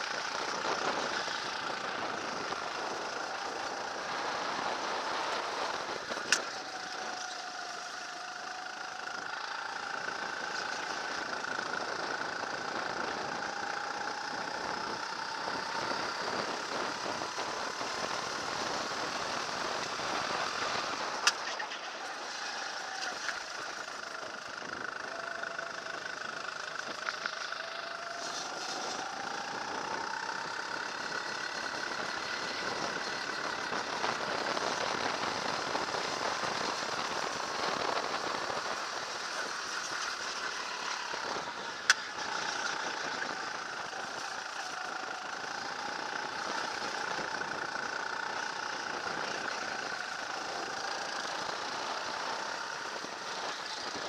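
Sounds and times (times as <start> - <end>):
kart engine revving: 0.0 - 54.0
wind and tyre noise: 0.0 - 54.0.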